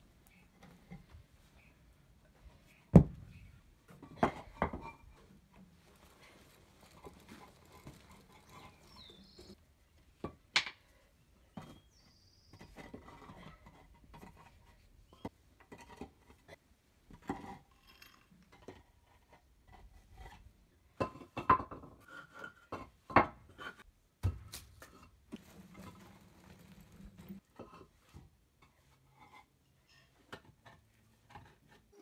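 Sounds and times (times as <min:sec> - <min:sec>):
concrete pavers clinking and scraping: 0:03.4 - 0:09.6, 0:10.2 - 0:23.9, 0:24.5 - 0:32.0.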